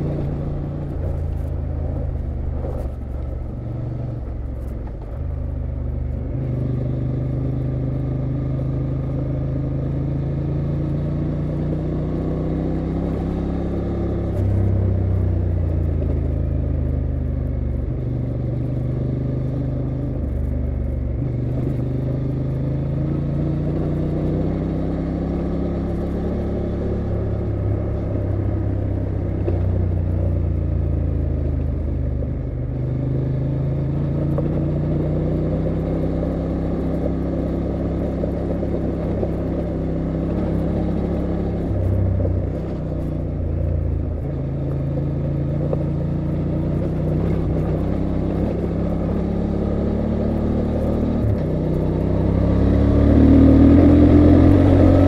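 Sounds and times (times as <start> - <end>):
motorcycle engine under throttle: 0.0 - 55.0.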